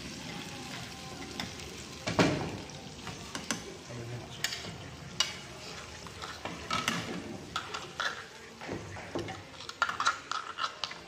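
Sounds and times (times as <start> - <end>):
wok simmering: 0.0 - 10.6.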